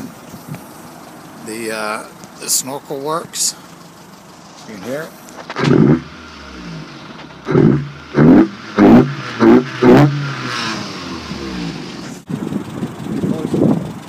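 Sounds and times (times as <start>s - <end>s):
truck engine revving and idling: 0.0s - 14.0s.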